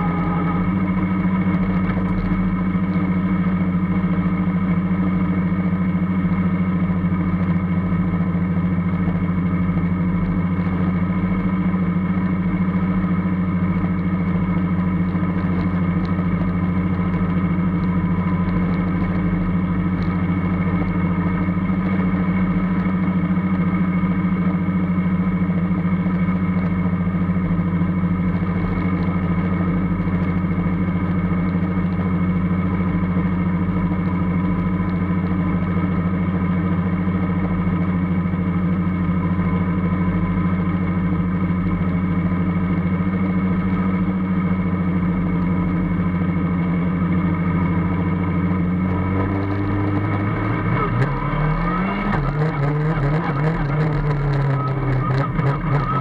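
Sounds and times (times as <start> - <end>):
race car engine humming: 0.0 - 56.0.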